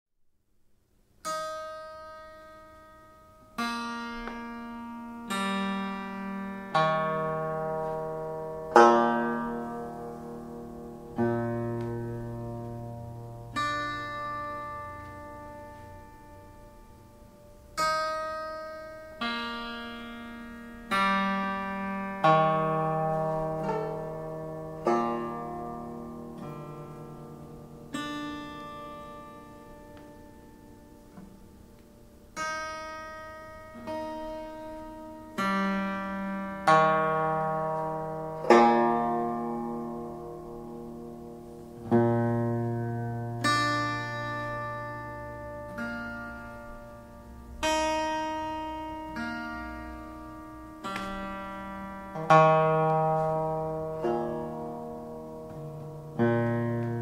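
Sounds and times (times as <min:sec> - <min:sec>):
slow ringing instrumental chords: 0:01.3 - 0:57.0.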